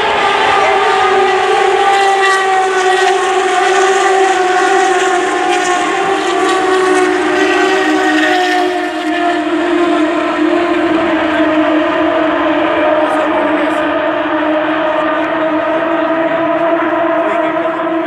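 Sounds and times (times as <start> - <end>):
race cars passing at speed: 0.0 - 18.0.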